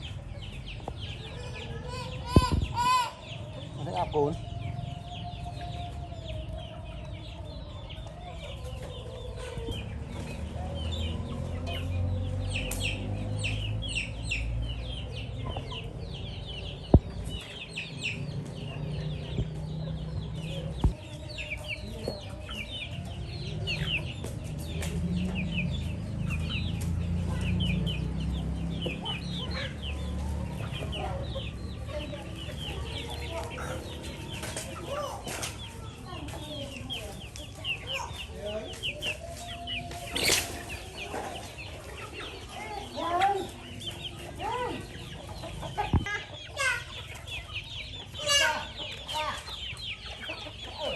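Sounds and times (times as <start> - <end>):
chickens clucking and calling: 0.0 - 50.9.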